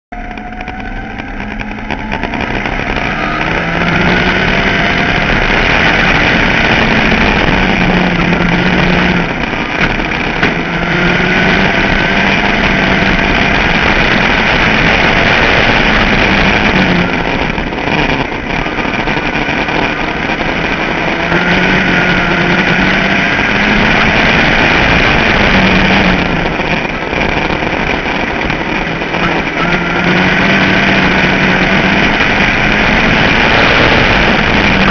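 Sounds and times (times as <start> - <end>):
other race car engines: 0.1 - 34.9
race car engine at full throttle: 0.1 - 34.9.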